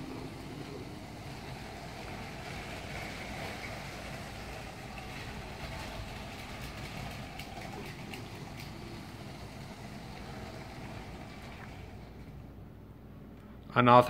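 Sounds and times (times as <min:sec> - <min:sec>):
toy train motor whirring: 0:00.0 - 0:12.4
wheels rolling on plastic track: 0:00.0 - 0:12.6.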